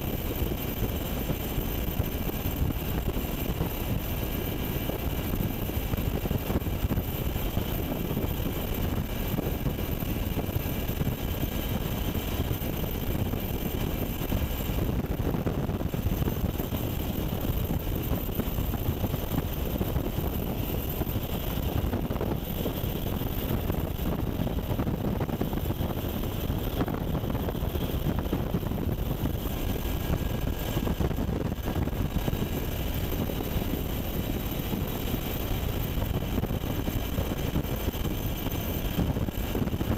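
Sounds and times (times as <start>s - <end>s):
helicopter rotors and engines: 0.0s - 39.9s.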